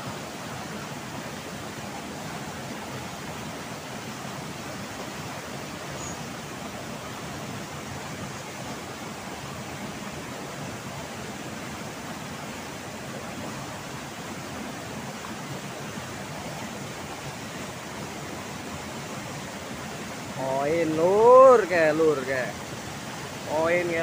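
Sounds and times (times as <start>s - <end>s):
waterfall and rushing river: 0.0s - 24.0s.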